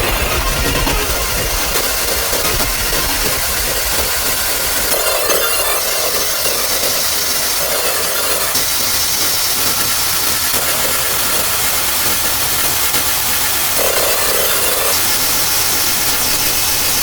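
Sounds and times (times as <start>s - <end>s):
loud steady hissing: 0.0s - 17.0s.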